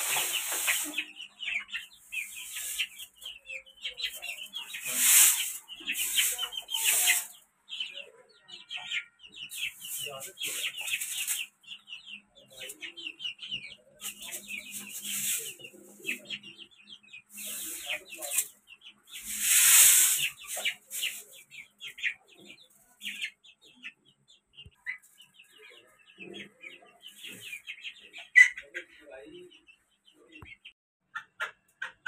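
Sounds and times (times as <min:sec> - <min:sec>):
chickens clucking and chirping: 0:00.0 - 0:32.0.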